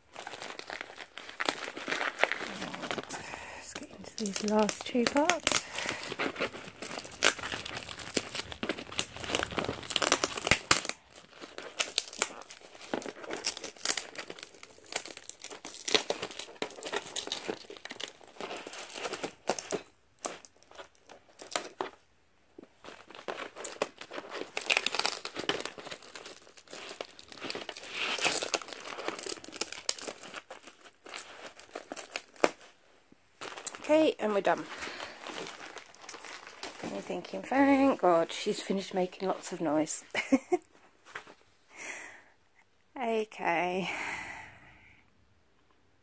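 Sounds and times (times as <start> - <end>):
plastic packaging crinkling and tearing: 0.0 - 41.4.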